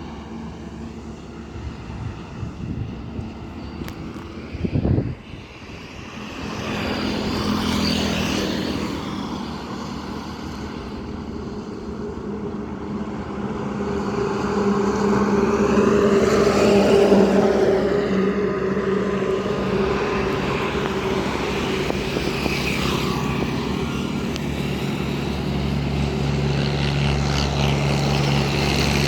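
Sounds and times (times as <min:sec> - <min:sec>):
truck diesel engines driving past: 0:00.0 - 0:29.0.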